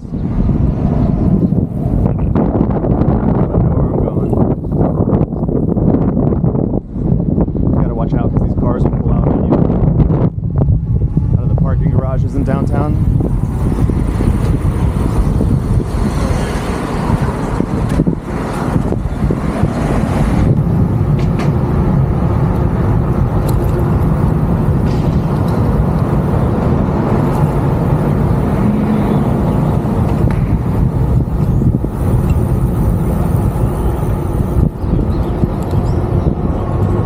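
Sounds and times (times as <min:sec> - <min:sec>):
road noise: 0:00.0 - 0:37.0
wind noise on microphone: 0:00.0 - 0:37.0.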